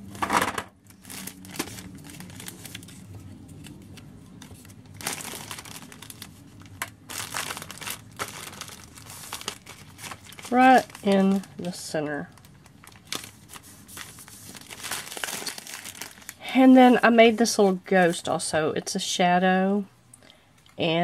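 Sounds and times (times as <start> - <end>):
cellophane and wrappers crinkling: 0.8 - 18.3.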